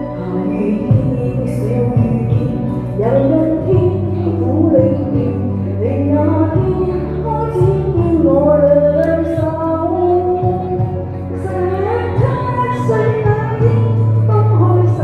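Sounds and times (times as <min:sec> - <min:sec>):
pop song duet: 0:00.0 - 0:15.0.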